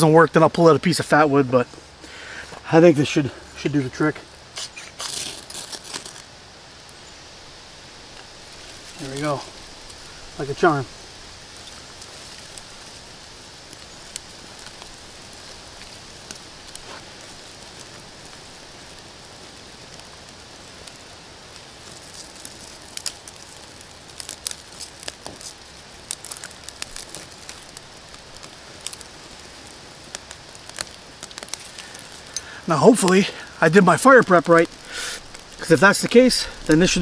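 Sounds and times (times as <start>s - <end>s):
faint fire hiss: 0.0s - 37.0s
kindling fire crackling and popping: 0.0s - 37.0s.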